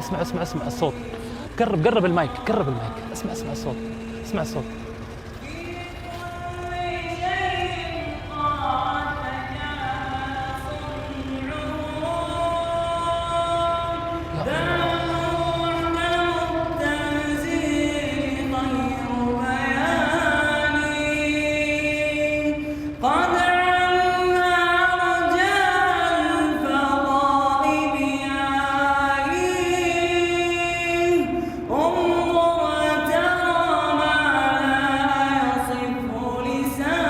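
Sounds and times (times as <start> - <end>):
man singing unaccompanied: 0.0 - 37.0.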